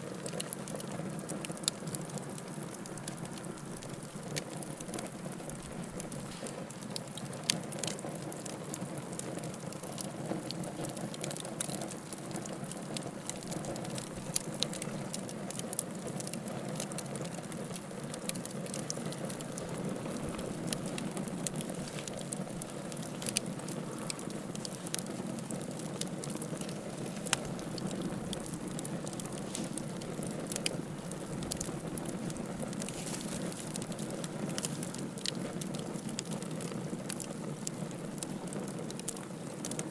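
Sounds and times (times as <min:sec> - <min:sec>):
wood fire crackling and popping: 0:00.0 - 0:39.9
low rush of flames: 0:00.1 - 0:39.9.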